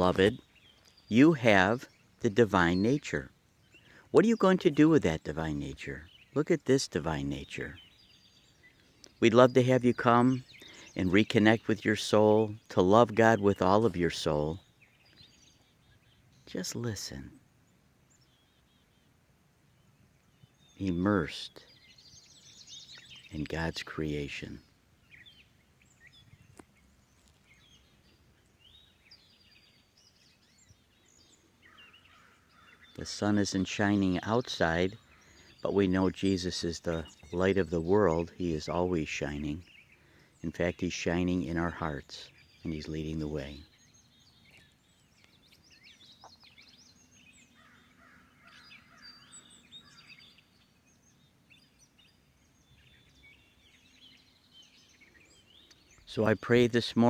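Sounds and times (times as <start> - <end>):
birds chirping and whistling: 0.0 - 57.0.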